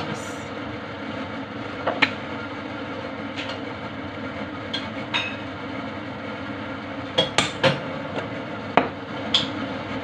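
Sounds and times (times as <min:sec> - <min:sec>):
range hood fan whirring: 0:00.0 - 0:10.0.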